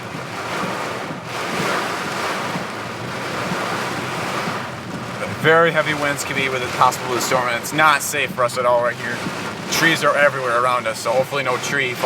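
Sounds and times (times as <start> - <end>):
heavy rain and wind on a car: 0.0 - 12.0.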